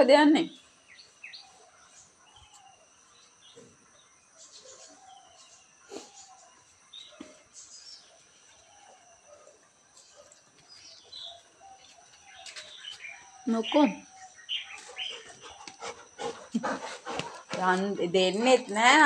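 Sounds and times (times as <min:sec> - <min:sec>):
faint steady high tone: 0:00.0 - 0:15.8
faint birds chirping: 0:00.0 - 0:19.0.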